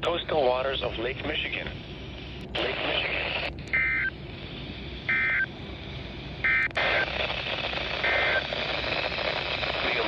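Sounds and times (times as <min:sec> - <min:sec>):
radio static hiss: 0:00.1 - 0:10.0.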